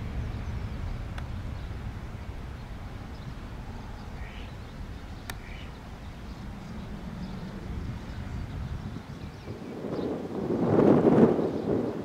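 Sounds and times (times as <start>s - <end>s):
faint bird chirps: 0.0s - 10.1s
jet engines rumbling at takeoff: 0.0s - 12.0s.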